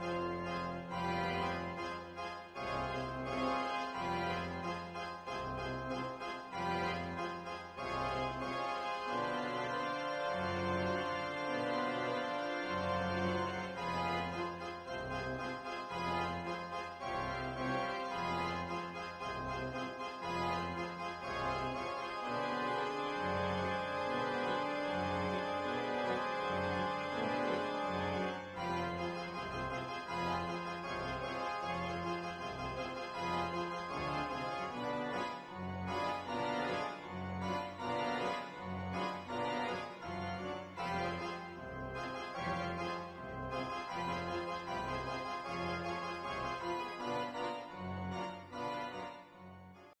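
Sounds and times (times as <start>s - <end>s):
organ-like keyboard music: 0.0s - 50.0s.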